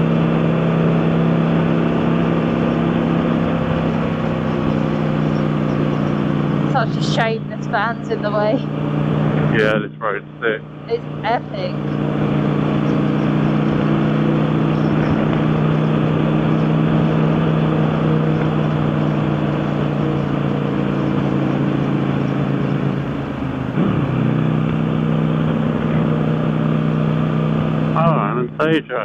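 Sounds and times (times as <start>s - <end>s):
wind and road noise: 0.0s - 9.7s, 10.3s - 28.0s
motorcycle engine cruising: 0.0s - 29.0s.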